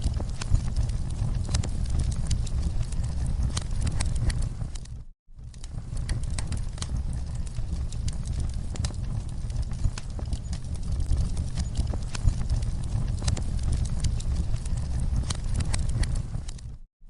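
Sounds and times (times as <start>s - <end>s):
wood fire crackling: 0.0s - 16.8s.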